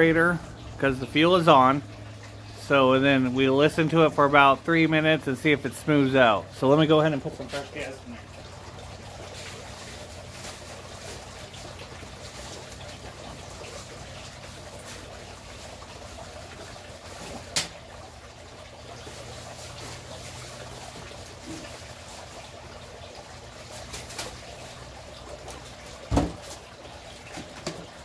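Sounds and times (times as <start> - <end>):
fountain water trickling: 0.0 - 28.0
low steady hum: 0.0 - 28.0.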